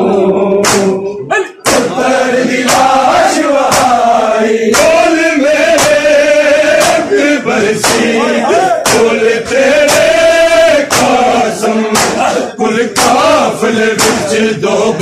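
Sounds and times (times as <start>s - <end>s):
men chanting: 0.0s - 15.0s
men beating their chests: 0.6s - 15.0s.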